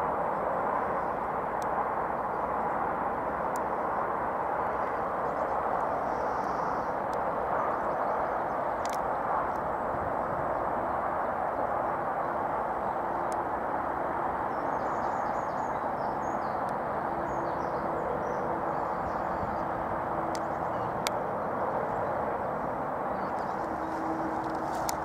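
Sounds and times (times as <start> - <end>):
steady outdoor background noise: 0.0 - 25.0.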